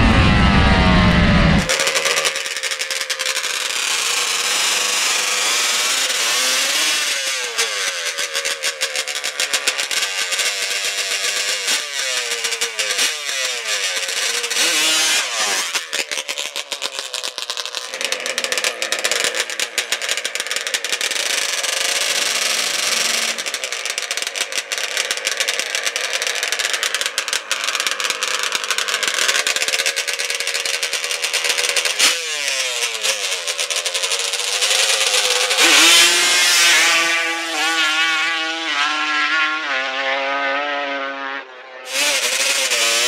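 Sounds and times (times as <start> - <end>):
drag racer engine revving: 0.0 - 43.0.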